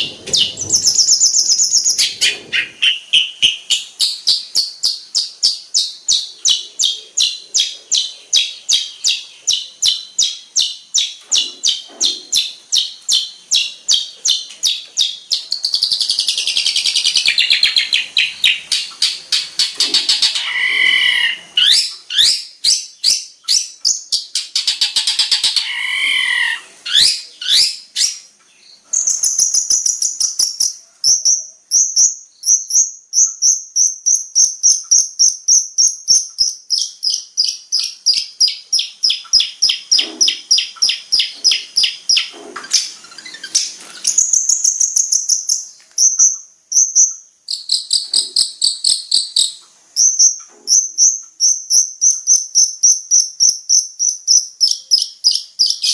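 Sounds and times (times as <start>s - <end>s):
bird song with sharp chirps: 0.0s - 55.9s.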